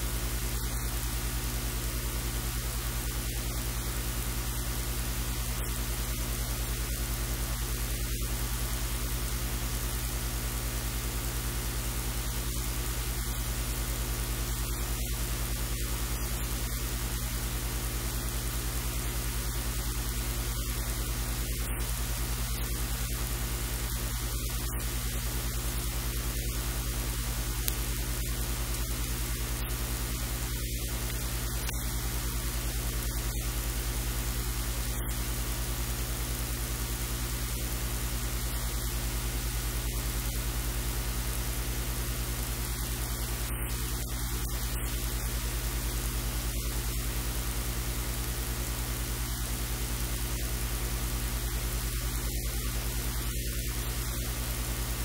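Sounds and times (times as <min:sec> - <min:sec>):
constant hiss: 0:00.0 - 0:55.0
electrical hum: 0:00.0 - 0:55.0.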